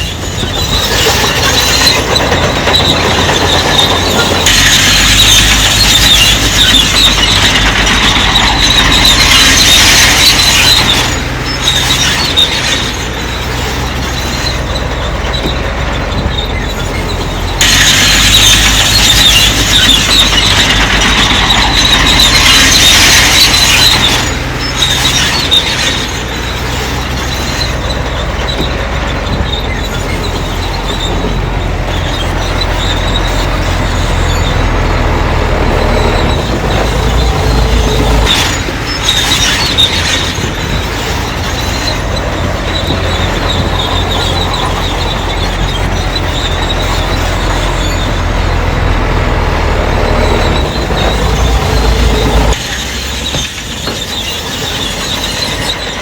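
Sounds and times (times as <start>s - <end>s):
bulldozer diesel engine running: 0.0s - 56.0s
steel tracks squealing and clattering: 0.0s - 56.0s.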